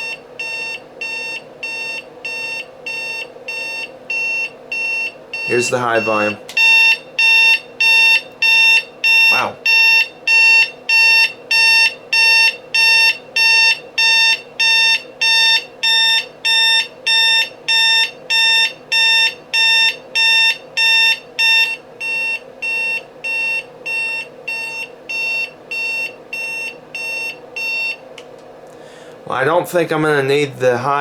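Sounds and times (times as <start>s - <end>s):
alarm clock beeping: 0.0s - 28.0s.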